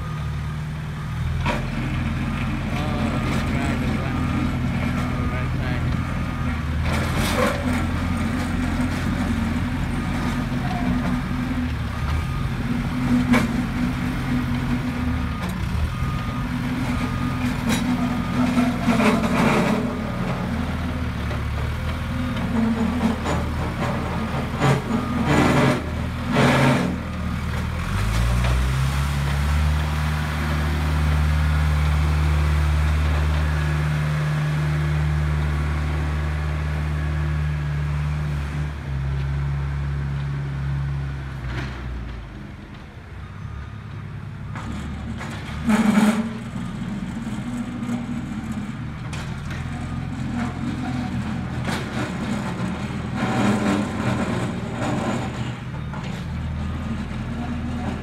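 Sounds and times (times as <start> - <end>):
backhoe diesel engine revving: 0.0 - 58.0.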